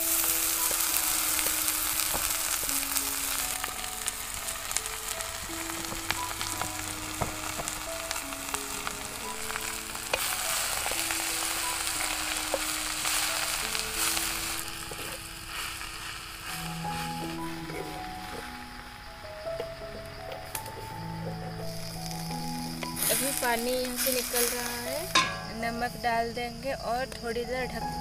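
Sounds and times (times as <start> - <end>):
greens sizzling in hot oil: 0.0 - 28.0
wooden spatula scraping: 0.2 - 18.7, 21.7 - 25.7.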